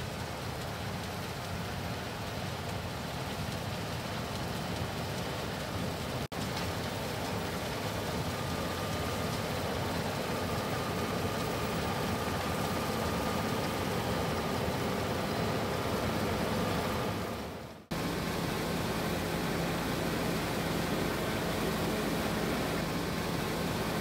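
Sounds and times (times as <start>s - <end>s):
combine harvester running: 0.0s - 24.0s
faint machine whine: 4.3s - 24.0s.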